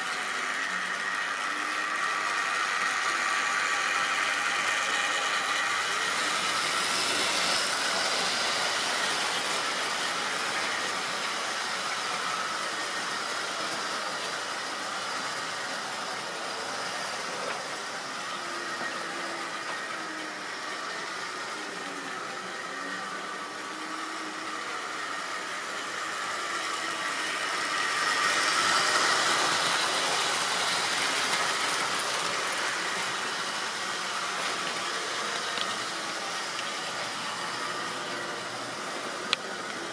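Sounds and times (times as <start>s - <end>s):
model train whirring and rattling: 0.0s - 39.9s.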